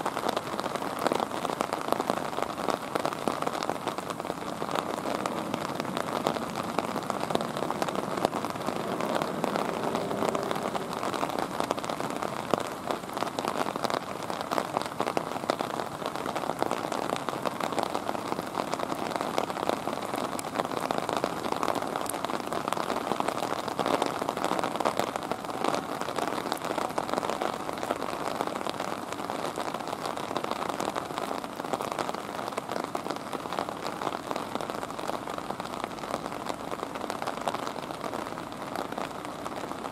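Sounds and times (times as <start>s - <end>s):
steady rain drops hitting a surface: 0.0s - 39.9s.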